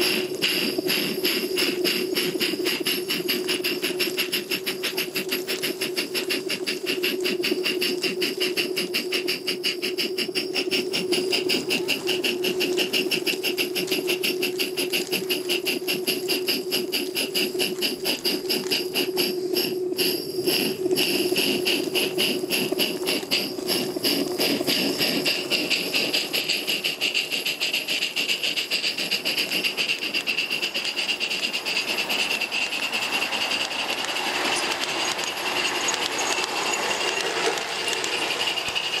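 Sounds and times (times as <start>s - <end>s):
model steam locomotive chuffing: 0.0s - 39.0s
steady steam hiss: 0.0s - 39.0s.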